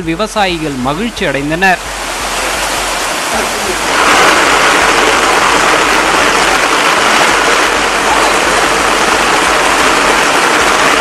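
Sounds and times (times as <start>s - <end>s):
heavy rain on a street: 0.0s - 11.0s.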